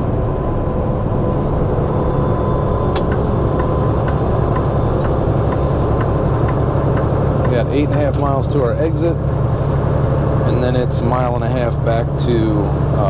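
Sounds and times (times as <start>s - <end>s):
truck engine and tyre drone: 0.0s - 13.0s.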